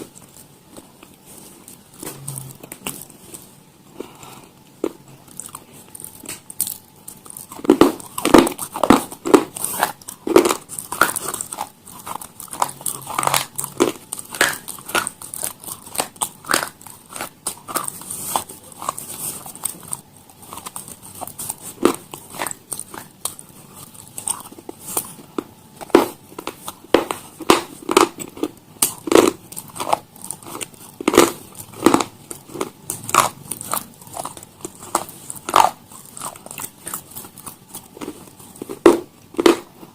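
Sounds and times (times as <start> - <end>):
crisp food crunching: 0.0 - 39.9.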